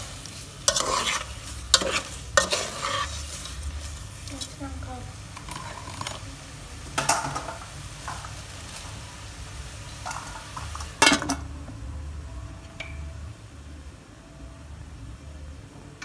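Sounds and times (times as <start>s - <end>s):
shrimp sizzling in pot: 0.0s - 13.7s.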